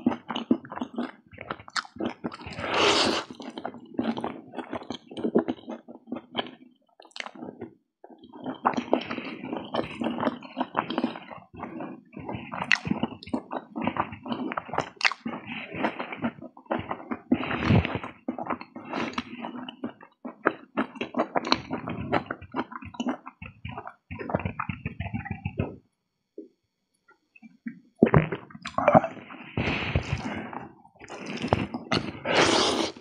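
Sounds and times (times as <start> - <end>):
person chewing and lip smacking: 0.0 - 25.8, 27.3 - 33.0.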